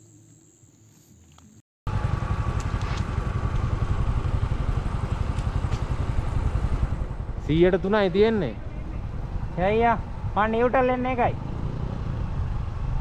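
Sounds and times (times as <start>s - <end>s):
motorcycle engine running: 1.9s - 13.0s.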